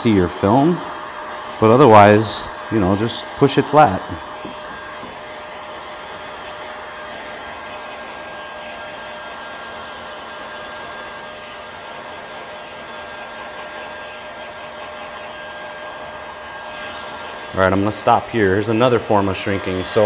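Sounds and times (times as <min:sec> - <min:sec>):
heat gun blowing with whine: 0:00.0 - 0:20.0.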